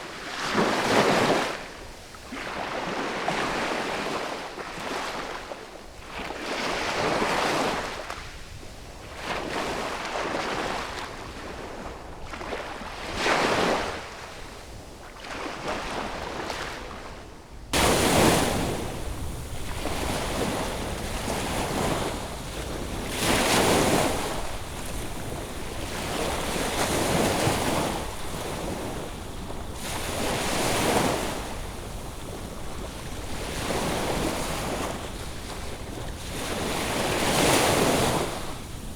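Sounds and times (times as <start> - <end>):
ocean waves breaking on beach: 0.0 - 8.4, 9.0 - 38.9
wind rumble on microphone: 5.5 - 38.9.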